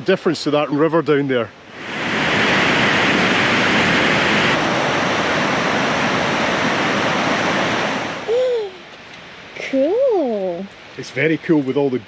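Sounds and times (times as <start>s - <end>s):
white water rushing: 0.0s - 12.0s.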